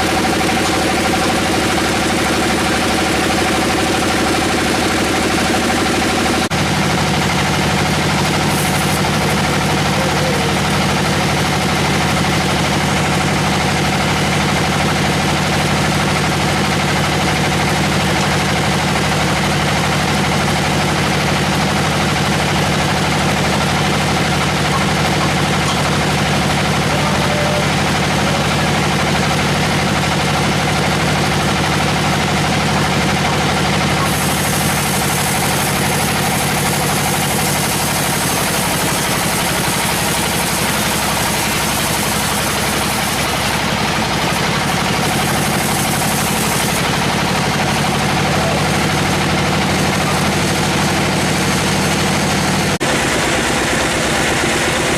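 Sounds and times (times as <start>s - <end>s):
sawmill machinery drone: 0.0s - 54.9s.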